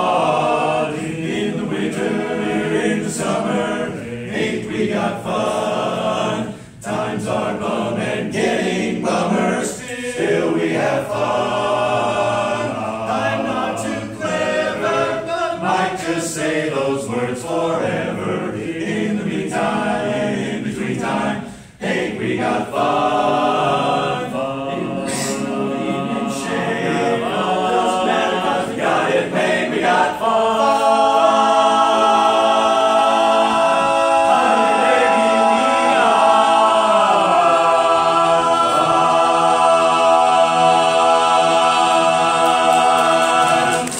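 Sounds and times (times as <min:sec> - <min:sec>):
men's chorus singing a cappella: 0:00.0 - 0:43.9.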